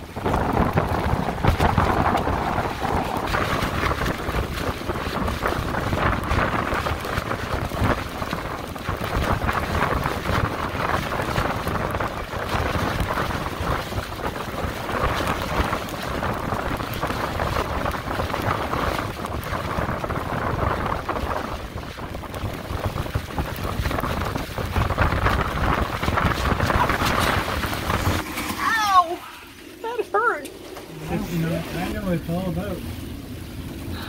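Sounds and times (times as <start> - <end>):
storm wind gusting: 0.0 - 34.0
wind buffeting microphone: 0.0 - 34.0.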